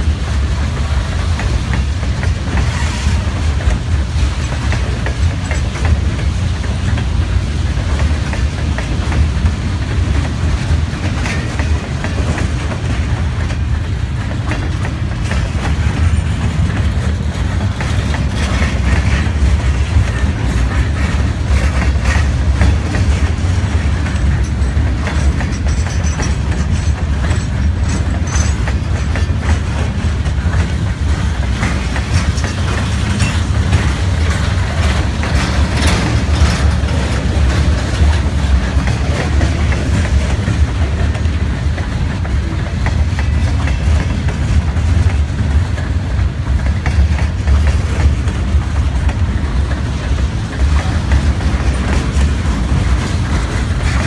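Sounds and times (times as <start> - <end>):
wheels clicking over rail joints: 0.0 - 54.0.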